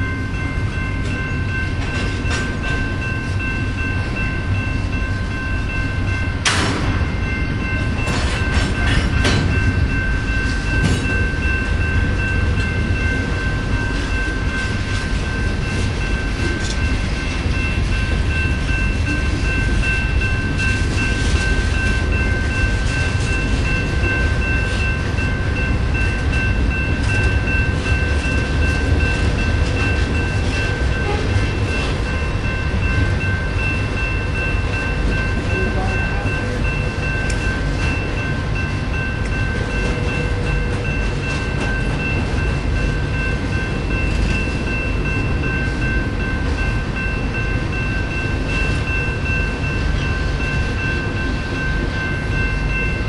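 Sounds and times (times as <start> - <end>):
steady high-pitched tone: 0.0 - 53.0
train wheels rumbling on rail: 0.0 - 53.0.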